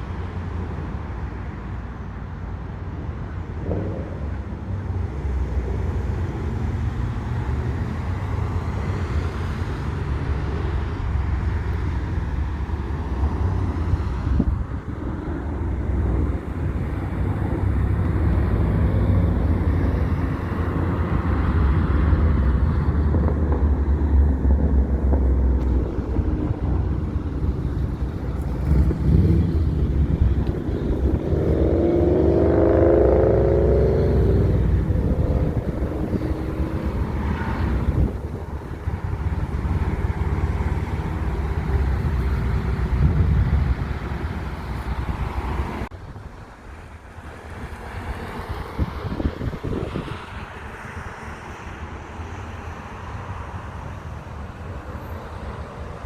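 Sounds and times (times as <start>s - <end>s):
jet engines rumbling: 0.0s - 45.9s.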